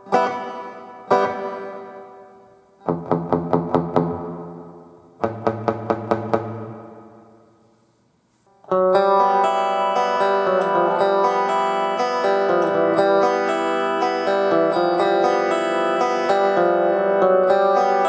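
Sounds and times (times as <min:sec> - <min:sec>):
electric guitar through amplifier: 0:00.0 - 0:07.8, 0:08.6 - 0:18.0.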